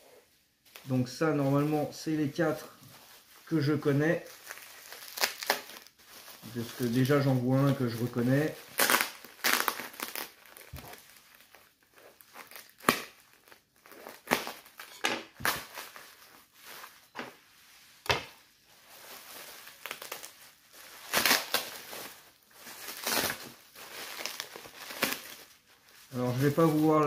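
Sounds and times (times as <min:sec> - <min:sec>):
bubble wrap crinkling: 0:00.2 - 0:27.0.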